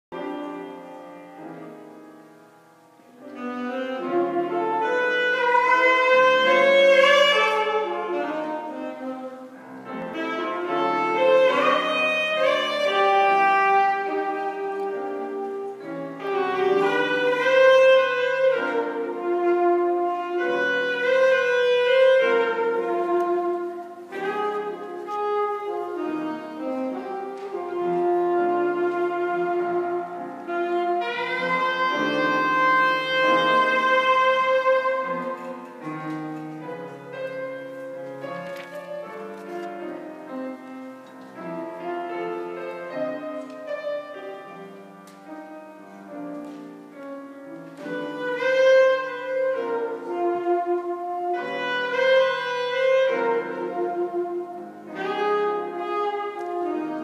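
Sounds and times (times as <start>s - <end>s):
grand piano accompaniment: 0.1s - 57.0s
solo wind instrument melody: 0.1s - 57.0s.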